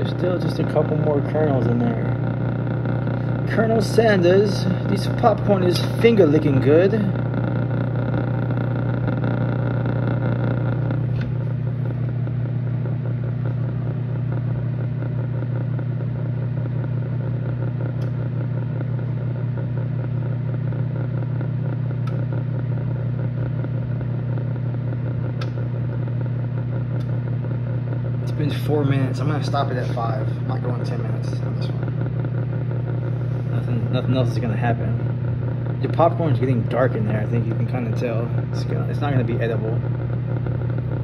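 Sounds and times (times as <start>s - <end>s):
microwave oven humming: 0.0s - 41.0s.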